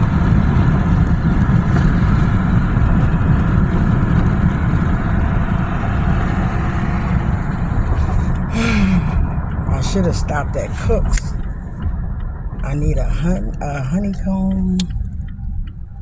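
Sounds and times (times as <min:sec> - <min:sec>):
vehicle rumble from inside cabin: 0:00.0 - 0:16.0.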